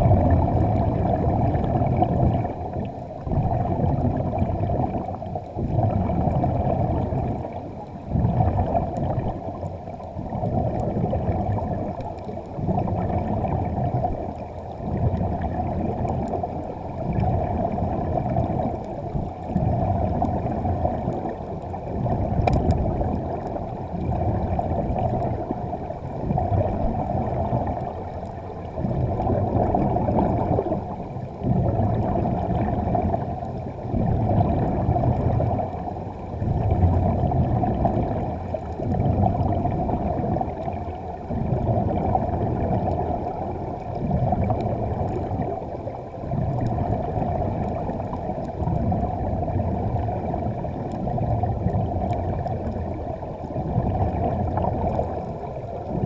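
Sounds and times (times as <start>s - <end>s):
air bubbling from diving gear: 0.0s - 56.0s
muffled underwater rumble: 0.0s - 56.0s.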